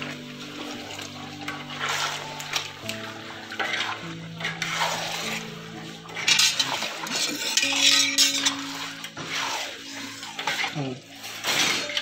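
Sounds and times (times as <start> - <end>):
background music with held notes: 0.0 - 12.0
metal ladle scraping a pot: 0.0 - 12.0.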